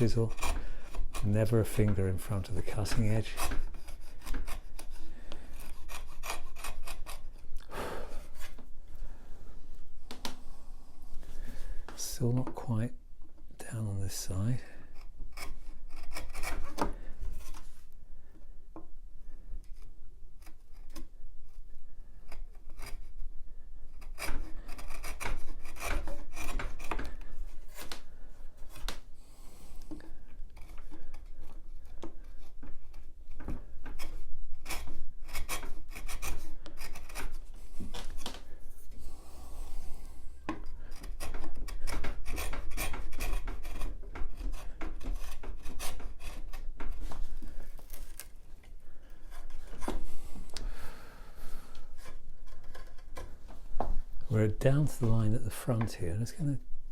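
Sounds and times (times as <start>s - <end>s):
chisel scraping wood: 0.0s - 7.5s, 8.2s - 8.6s, 13.8s - 18.3s, 19.3s - 56.4s.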